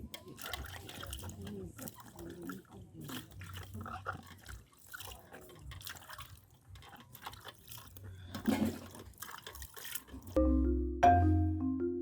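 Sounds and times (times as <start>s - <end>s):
water splashing and dripping: 0.0s - 10.4s.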